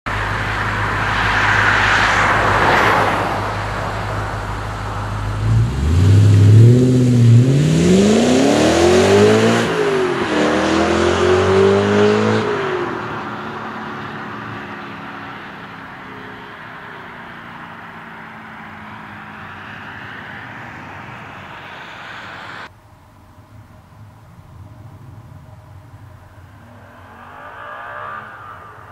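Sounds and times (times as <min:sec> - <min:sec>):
car engine accelerating: 0:00.1 - 0:22.7, 0:23.3 - 0:28.9.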